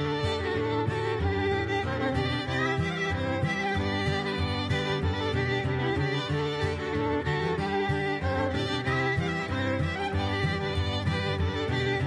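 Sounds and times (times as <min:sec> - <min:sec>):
fiddle playing: 0:00.0 - 0:12.0
instrumental theme music: 0:00.0 - 0:12.0.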